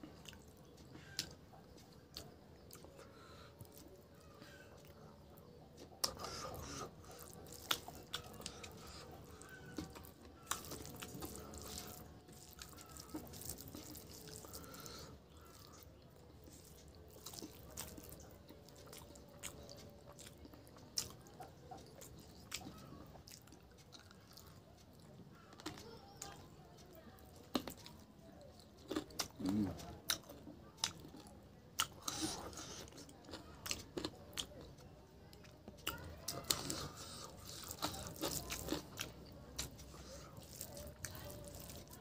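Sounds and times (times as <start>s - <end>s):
man chewing food: 0.0s - 42.0s.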